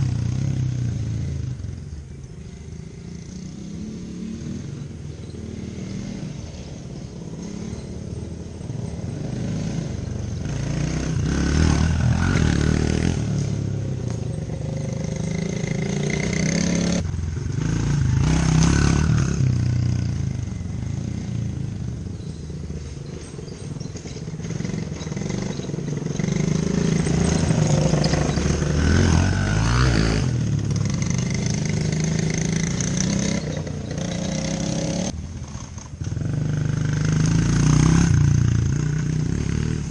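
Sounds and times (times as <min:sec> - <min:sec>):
small off-road engine revving: 0:00.0 - 0:39.9.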